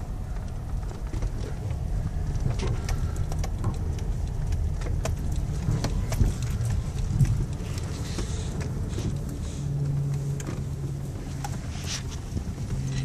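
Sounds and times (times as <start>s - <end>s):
car engine and tyres rumbling: 0.0s - 13.0s
light clicks and knocks: 0.3s - 13.0s.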